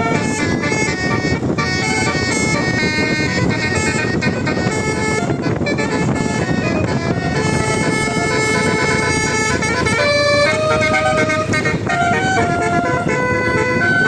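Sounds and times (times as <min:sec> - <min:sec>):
low rumble: 0:00.0 - 0:14.0
multi-tone bus horn tune: 0:00.0 - 0:14.0.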